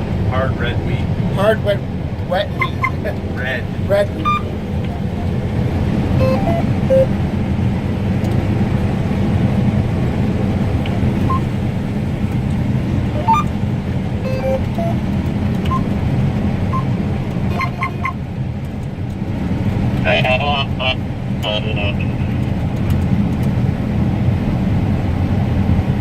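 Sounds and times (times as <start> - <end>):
combine harvester droning: 0.0 - 26.0.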